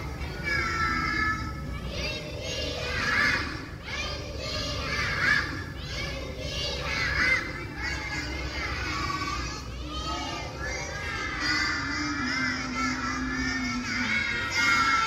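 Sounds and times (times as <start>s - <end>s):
children speaking in unison: 0.0s - 15.0s.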